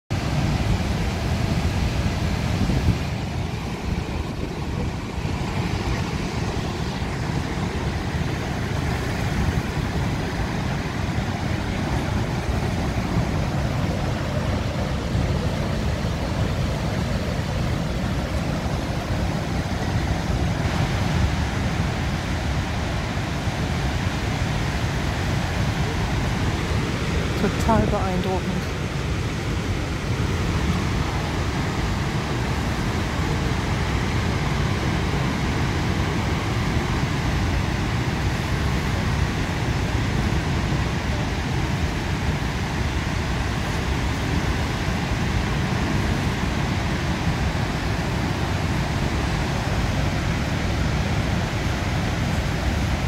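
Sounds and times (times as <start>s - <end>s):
waterfall rushing: 0.1s - 53.0s.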